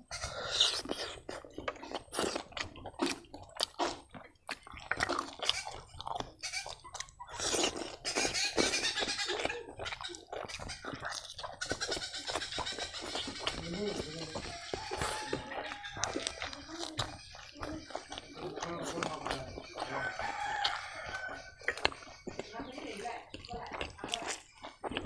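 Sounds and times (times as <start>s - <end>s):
wet chewing and lip-smacking: 0.0s - 25.0s.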